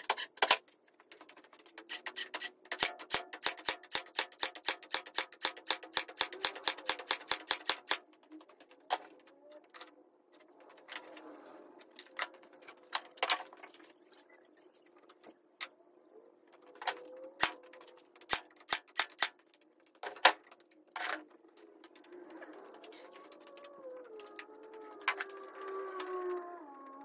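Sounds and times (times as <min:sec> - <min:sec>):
wooden strips clacking: 0:00.0 - 0:11.2, 0:16.5 - 0:27.0.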